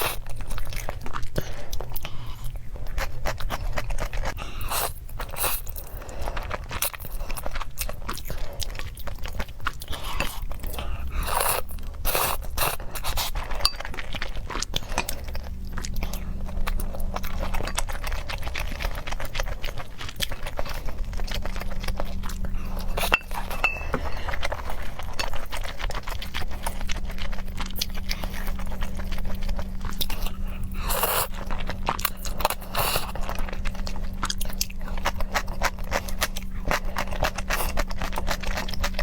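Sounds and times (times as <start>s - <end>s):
chewing noodles: 0.0s - 39.0s.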